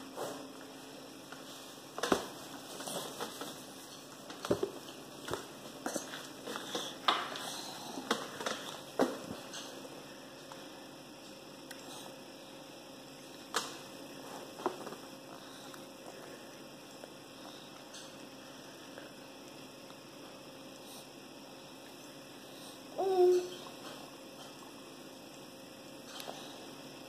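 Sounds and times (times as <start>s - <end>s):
faint electrical hum: 0.0s - 27.0s.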